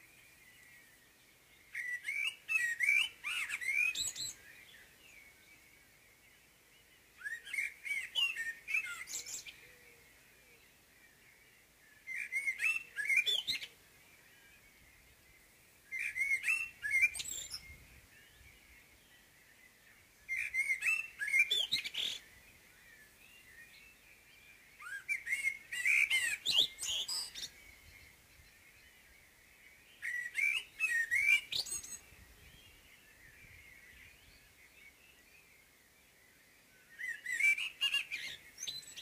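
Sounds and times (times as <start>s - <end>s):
blackbird song: 0.0s - 39.0s.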